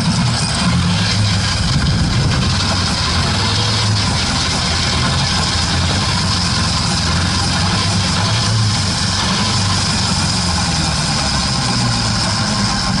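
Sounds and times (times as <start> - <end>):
rear axle drive rumbling: 0.0 - 13.0.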